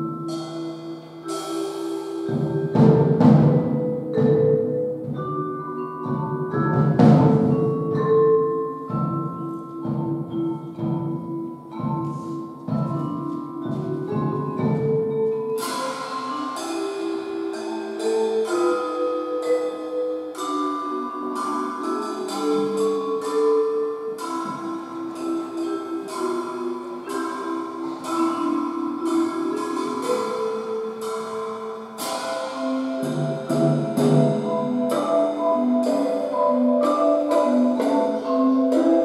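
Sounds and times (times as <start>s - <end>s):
drum kit beats: 0.0s - 39.0s
mallet percussion melody: 0.0s - 39.0s.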